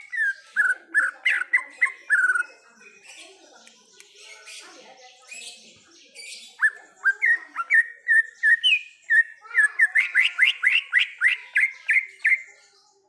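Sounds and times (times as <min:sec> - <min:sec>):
bird singing whistled notes: 0:00.0 - 0:12.7.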